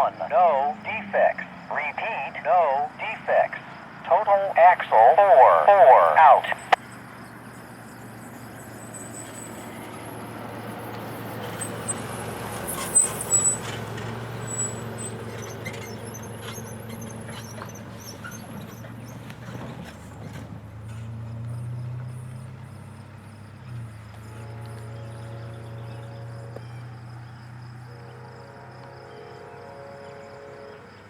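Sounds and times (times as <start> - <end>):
distant diesel locomotives rumbling: 0.0 - 31.0.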